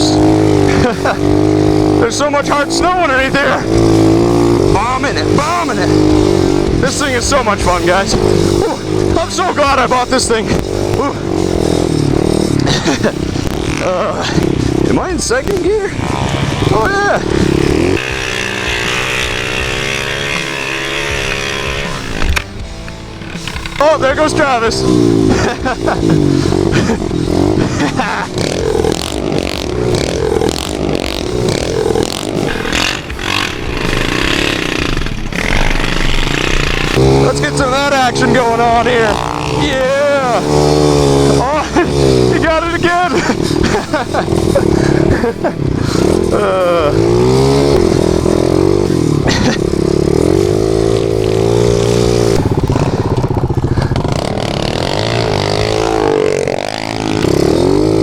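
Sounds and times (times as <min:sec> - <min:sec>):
pit bike engine revving: 0:00.0 - 0:58.0
rattling: 0:00.0 - 0:58.0
rushing noise: 0:00.0 - 0:58.0.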